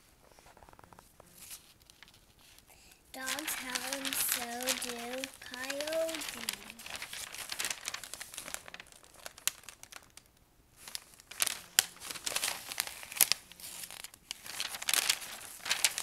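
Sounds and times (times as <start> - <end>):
paper pages rustling: 0.3 - 16.0.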